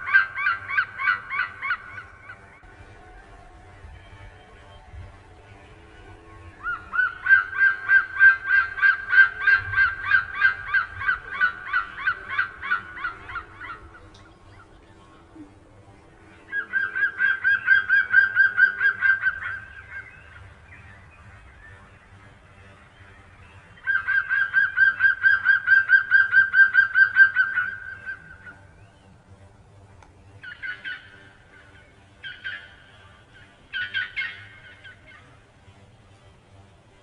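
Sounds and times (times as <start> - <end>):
bird honking calls: 0.0 - 29.5, 30.3 - 35.8.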